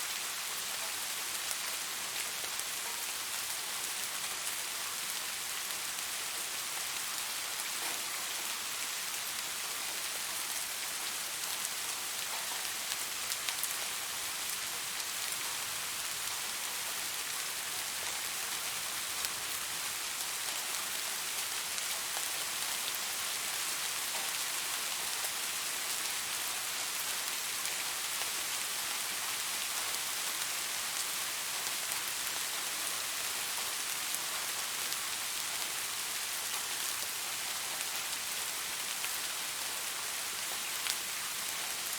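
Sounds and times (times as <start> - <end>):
rain falling on leaves: 0.0 - 41.9.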